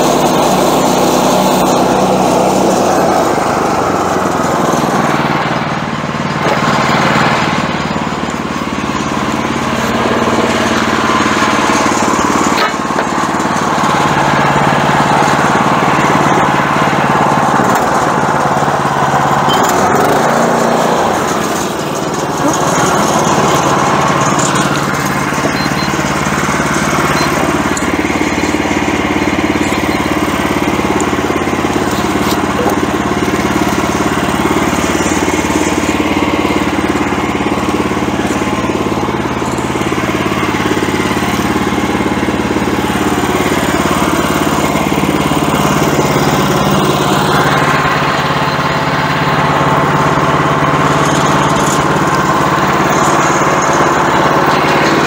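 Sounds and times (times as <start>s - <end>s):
gasoline engine running: 0.0s - 55.0s.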